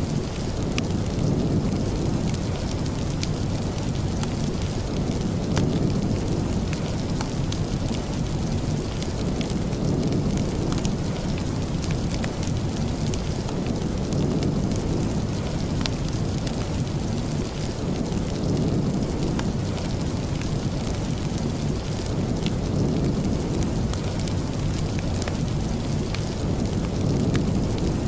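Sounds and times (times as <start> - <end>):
steady rain: 0.0 - 28.0
wood fire crackling: 0.0 - 28.0.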